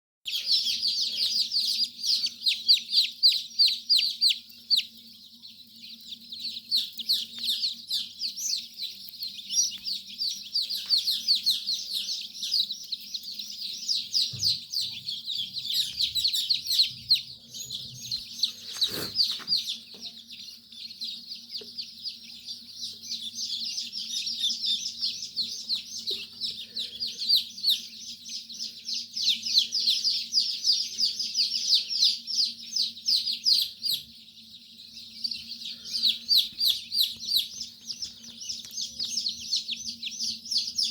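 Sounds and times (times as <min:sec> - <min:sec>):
chicks peeping: 0:00.3 - 0:40.9.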